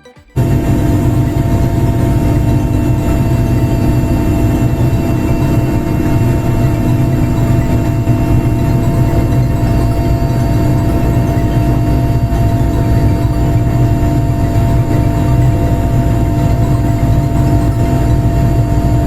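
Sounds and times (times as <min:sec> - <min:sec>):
heavy engine running loudly: 0:00.4 - 0:19.0.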